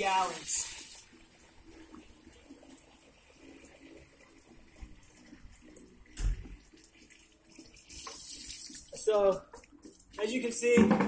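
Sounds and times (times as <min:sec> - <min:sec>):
water pouring into bucket: 0:00.0 - 0:11.0.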